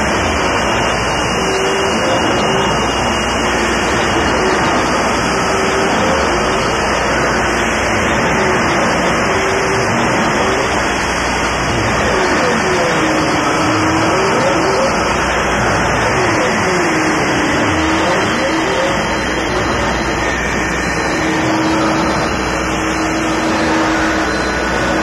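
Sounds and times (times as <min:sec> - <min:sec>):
harsh distorted noise music: 0:00.0 - 0:25.0
wavering sweeping tone: 0:00.0 - 0:25.0.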